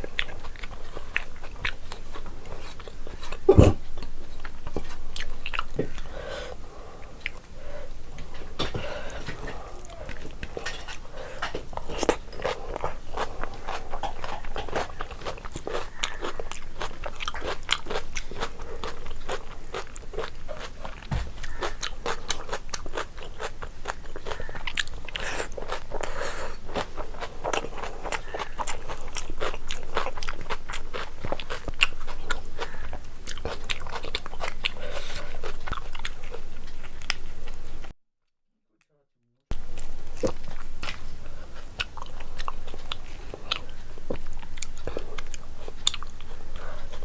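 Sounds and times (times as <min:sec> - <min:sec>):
person chewing food: 0:00.0 - 0:37.9, 0:39.5 - 0:47.0.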